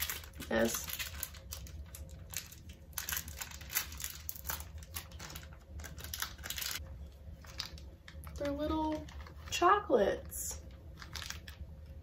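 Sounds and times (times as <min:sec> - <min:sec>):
foil wrapper crinkling: 0:00.0 - 0:09.8, 0:10.5 - 0:12.0.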